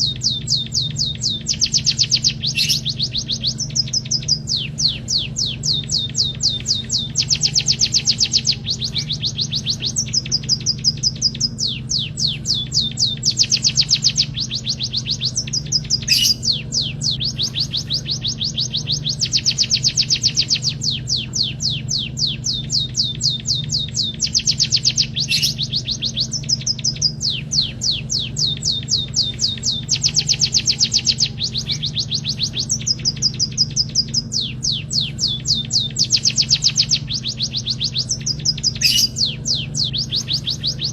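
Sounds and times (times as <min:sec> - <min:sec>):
bird singing high trills: 0:00.0 - 0:40.9
steady low hum: 0:00.0 - 0:40.9.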